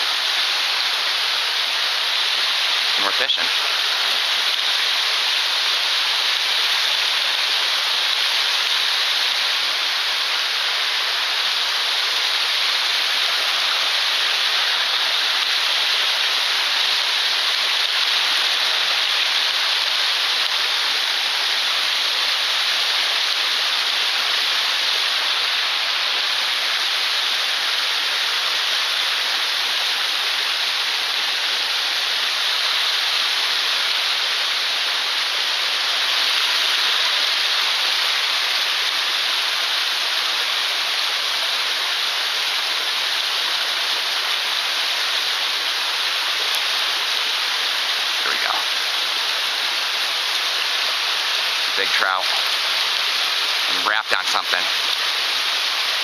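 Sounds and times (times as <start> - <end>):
waterfall rushing into pool: 0.0 - 56.0.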